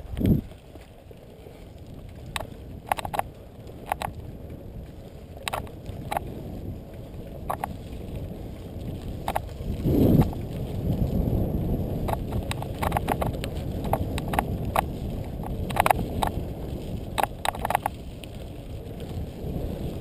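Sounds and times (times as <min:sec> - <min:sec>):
bicycle tyres rumbling on dirt: 0:00.0 - 0:20.0
bike rattling over bumps: 0:00.0 - 0:20.0
wind: 0:00.0 - 0:20.0.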